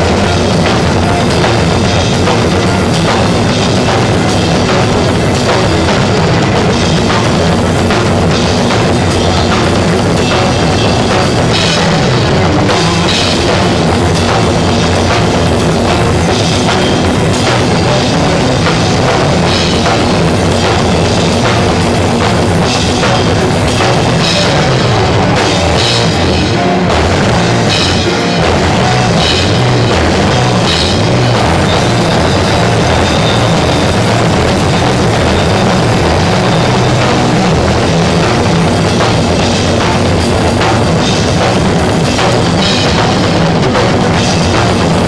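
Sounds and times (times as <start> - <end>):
distorted live rock band: 0.0 - 45.0
drum kit: 0.0 - 45.0.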